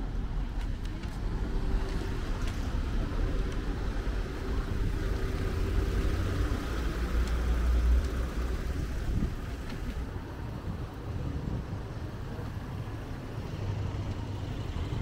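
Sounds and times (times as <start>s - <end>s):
low traffic rumble: 0.0s - 15.0s
vehicle engine hum: 0.0s - 15.0s.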